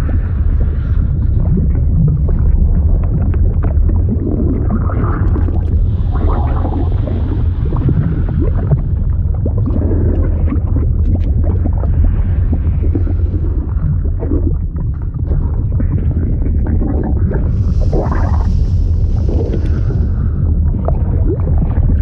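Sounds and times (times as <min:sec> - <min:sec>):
deep liquid rumble: 0:00.0 - 0:22.0
liquid bubbling and gurgling: 0:00.0 - 0:22.0.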